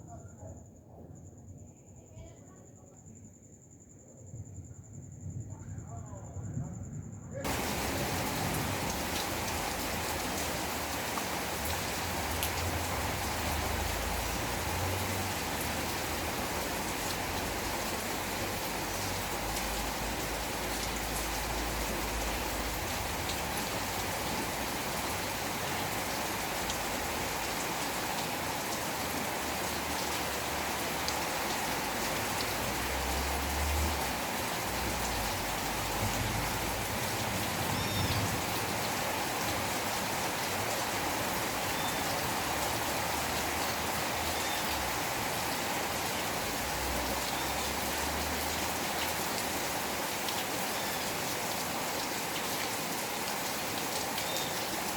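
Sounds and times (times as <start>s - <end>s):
rain pattering: 7.4s - 54.9s.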